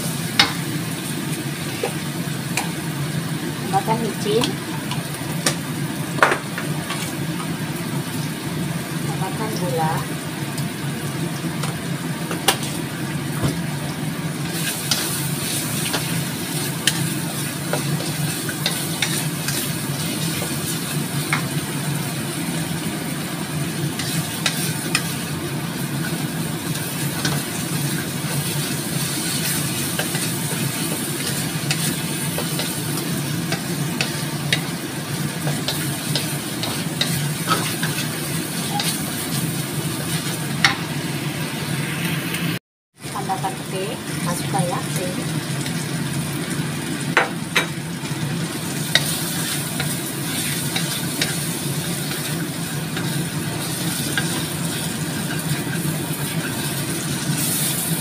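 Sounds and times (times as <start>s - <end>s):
paste sizzling in a wok: 0.0s - 58.0s.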